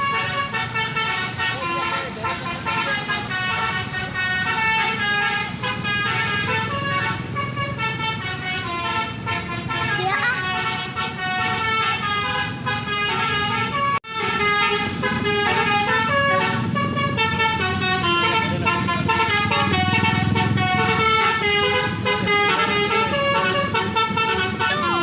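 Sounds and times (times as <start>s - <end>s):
bus horn playing melody: 0.0s - 25.0s
low engine rumble: 0.0s - 25.0s.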